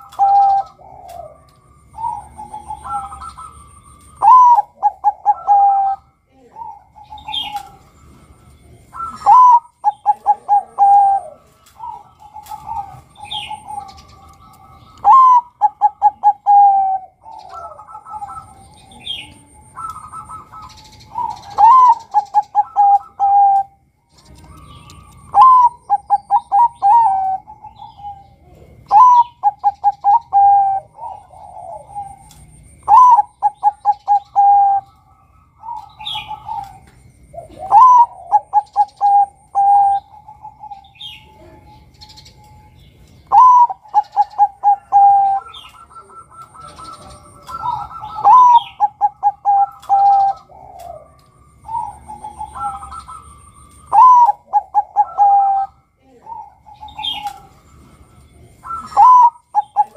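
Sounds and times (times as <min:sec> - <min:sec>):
dove cooing: 0:00.0 - 0:59.9
faint bird calls: 0:00.0 - 0:59.9.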